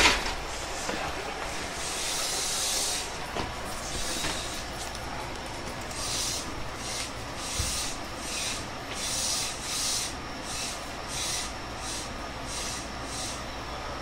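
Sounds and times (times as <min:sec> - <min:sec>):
low steady train rumble: 0:00.0 - 0:14.0
rhythmic hissing rasp: 0:00.5 - 0:04.9, 0:05.8 - 0:13.6.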